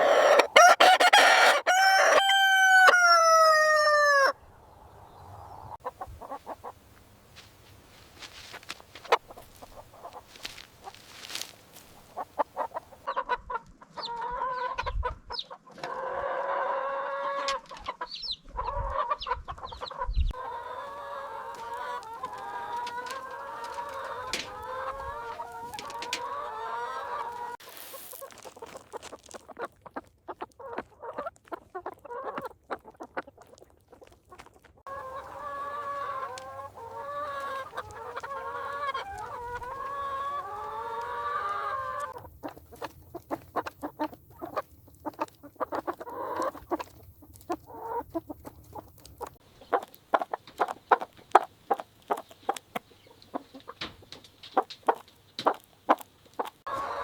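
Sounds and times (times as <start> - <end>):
chickens clucking: 0.0 - 6.9, 8.3 - 57.0.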